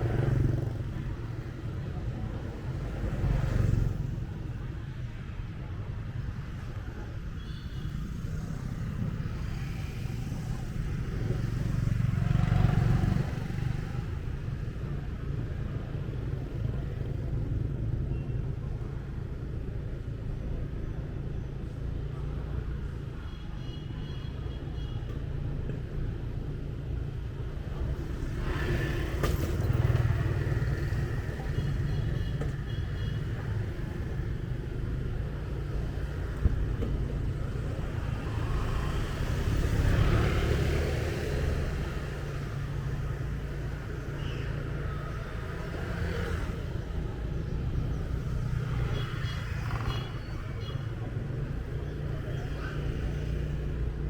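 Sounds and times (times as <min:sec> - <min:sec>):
motorbike engine and road rumble: 0:00.0 - 0:54.0.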